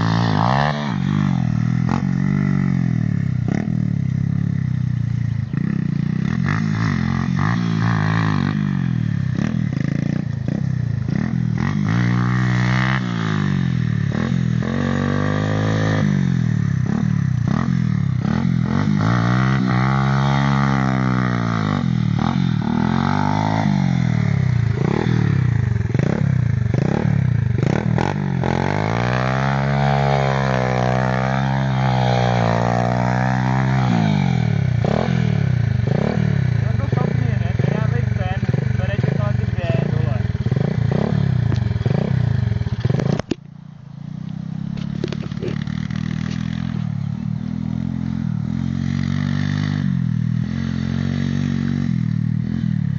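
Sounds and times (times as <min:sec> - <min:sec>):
small motorcycle engine revving: 0:00.0 - 0:52.9.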